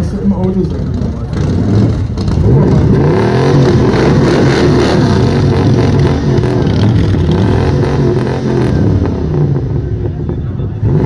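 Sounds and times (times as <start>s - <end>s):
van engine revving: 0.6s - 11.0s.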